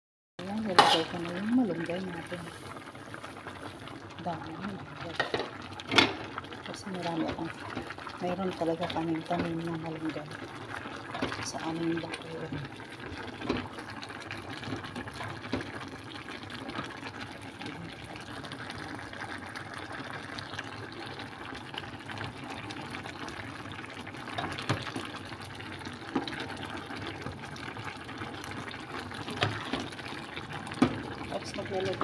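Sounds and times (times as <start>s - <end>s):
broth sloshing in a pot: 0.4s - 32.0s.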